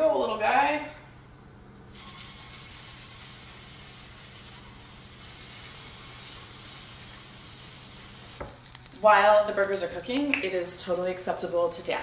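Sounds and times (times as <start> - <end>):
patties sizzling in oil: 1.9 - 12.0.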